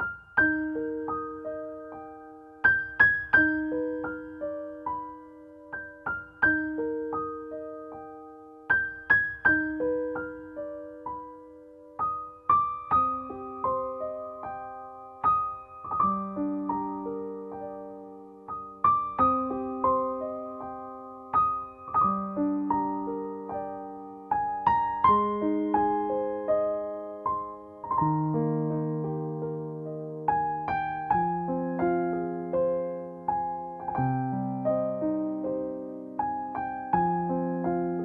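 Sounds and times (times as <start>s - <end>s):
gentle piano music: 0.0s - 38.0s.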